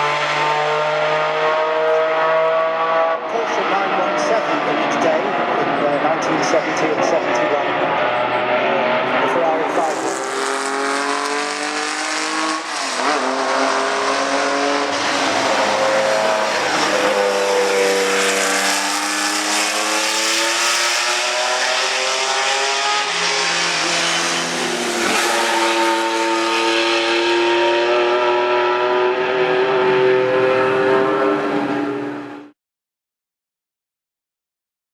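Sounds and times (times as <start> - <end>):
racing engine accelerating through gears: 0.0 - 32.4.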